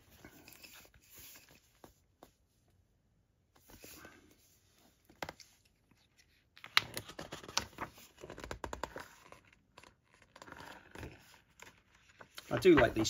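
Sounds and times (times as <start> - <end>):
book pages rustling: 0.0 - 2.8, 3.6 - 13.0.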